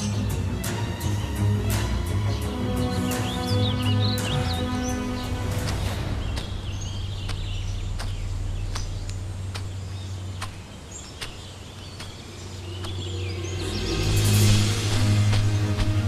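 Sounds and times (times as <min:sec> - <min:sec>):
music: 0:00.0 - 0:09.7, 0:12.7 - 0:16.0
birds chirping: 0:00.0 - 0:16.0
low background drone: 0:00.0 - 0:16.0.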